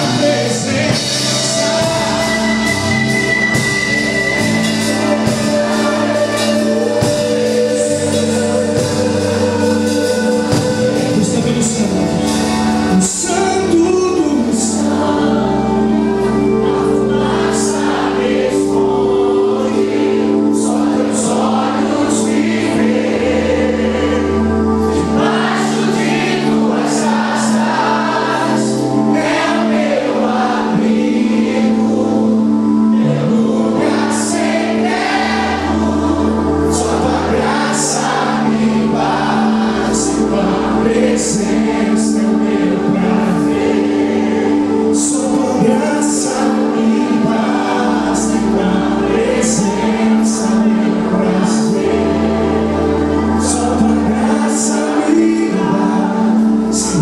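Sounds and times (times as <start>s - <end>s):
bass guitar: 0.0s - 57.0s
voices singing worship music: 0.0s - 57.0s.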